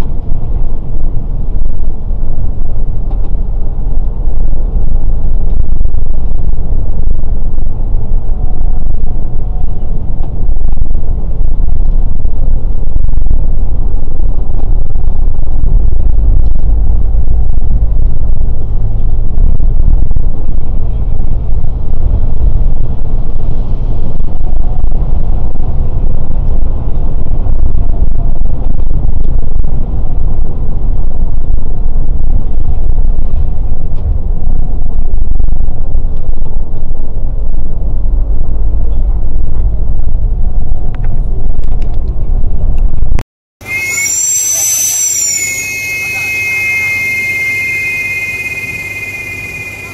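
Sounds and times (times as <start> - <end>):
coach diesel engine rumble: 0.0 - 43.1.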